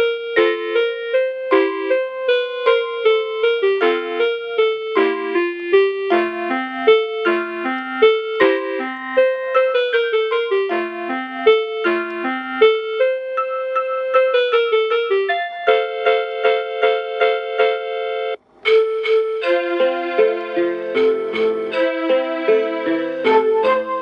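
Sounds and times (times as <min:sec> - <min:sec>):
electronic lullaby melody: 0:00.0 - 0:24.0.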